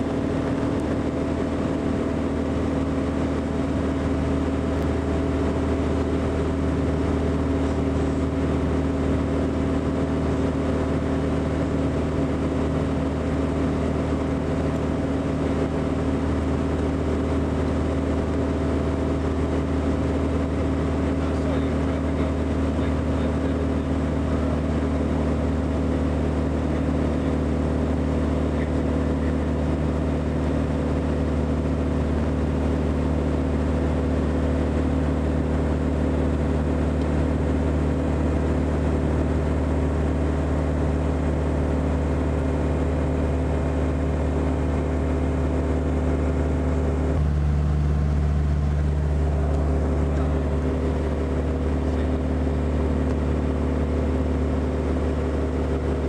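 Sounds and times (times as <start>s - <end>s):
aircraft engine drone: 0.0s - 56.0s.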